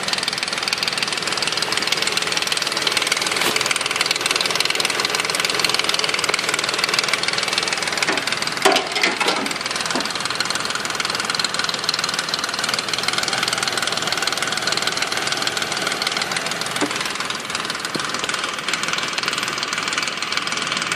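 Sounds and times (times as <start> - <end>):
car engine idling with rattle: 0.0 - 20.9
engine clatter: 0.0 - 20.9.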